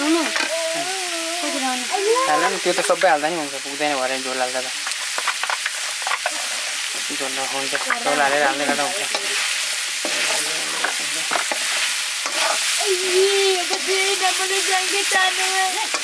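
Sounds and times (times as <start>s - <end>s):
curry sizzling in a pot: 0.0s - 16.0s.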